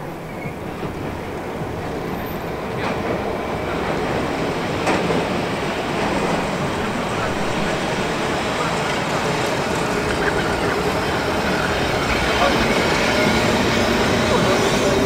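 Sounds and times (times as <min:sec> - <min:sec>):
tram running on track: 0:00.0 - 0:15.0.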